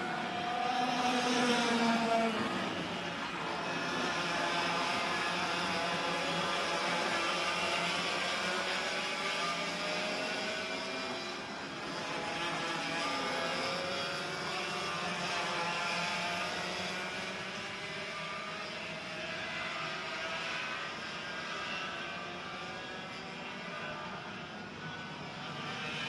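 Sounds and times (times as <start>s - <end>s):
kart engines revving past: 0.0s - 22.6s.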